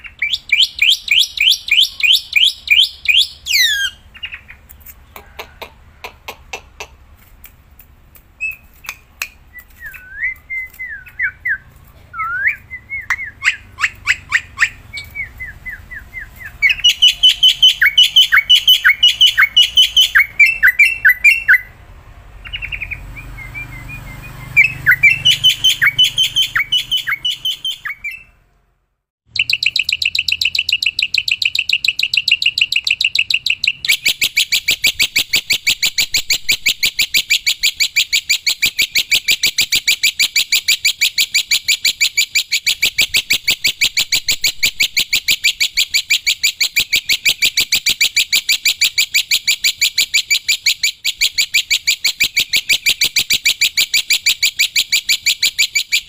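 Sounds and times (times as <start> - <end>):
bird singing: 0.0 - 6.9, 8.4 - 21.8, 22.4 - 28.4, 29.3 - 56.0.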